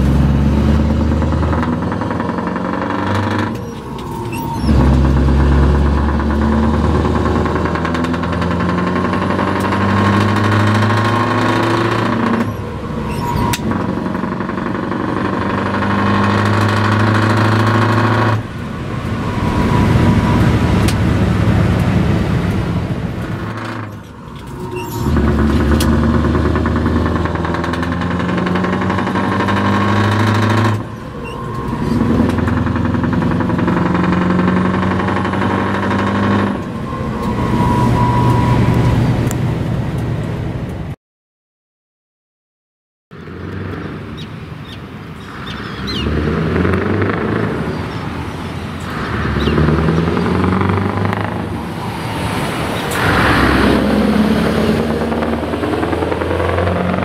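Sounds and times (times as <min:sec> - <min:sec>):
truck engine shifting gears: 0:00.0 - 0:41.0, 0:43.1 - 0:57.0
truck revving past: 0:00.0 - 0:41.0, 0:43.2 - 0:57.0.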